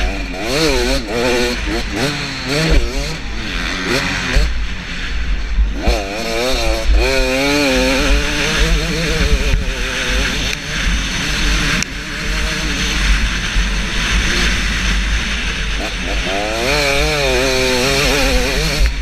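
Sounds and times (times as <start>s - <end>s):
low wind rumble: 0.0s - 19.0s
two-stroke motocross engine revving: 0.0s - 19.0s.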